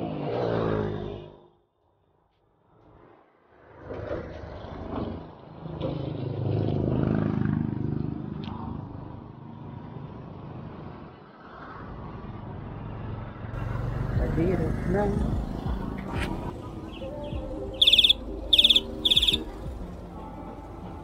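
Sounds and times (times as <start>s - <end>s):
passing vehicle engine: 0.0s - 1.6s, 3.0s - 21.0s.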